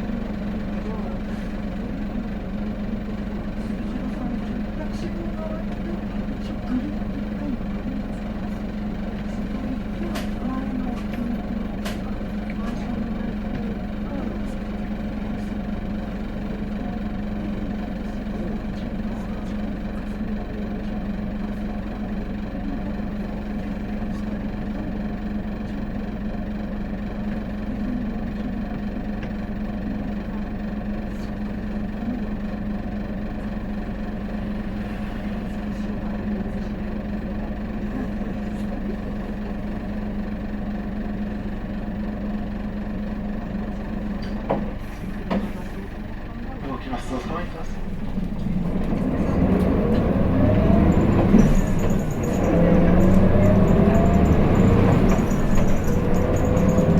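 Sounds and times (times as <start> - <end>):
bus engine droning: 0.0 - 56.9.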